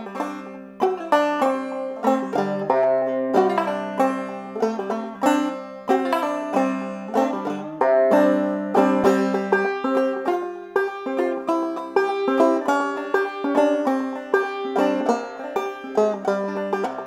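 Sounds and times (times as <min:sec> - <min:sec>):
banjo playing: 0:00.0 - 0:17.0.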